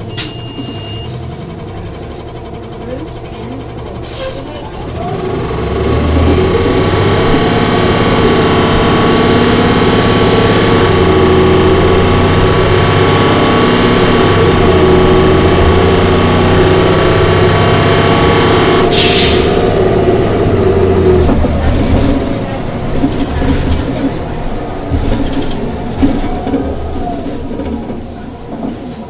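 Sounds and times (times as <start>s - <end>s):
bus engine running: 0.0s - 29.0s.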